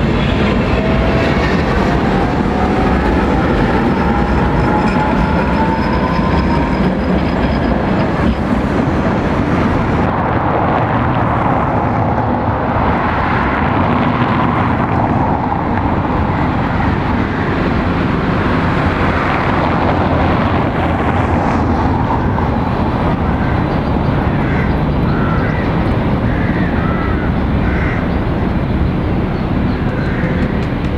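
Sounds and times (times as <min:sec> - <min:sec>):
loud outdoor rumble: 0:00.0 - 0:30.9.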